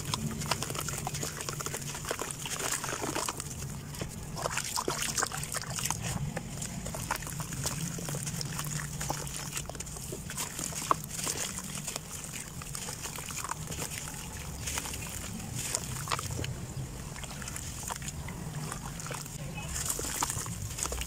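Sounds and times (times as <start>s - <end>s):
muddy water sloshing: 0.0s - 21.0s
wet dirt squelching in hands: 0.0s - 21.0s.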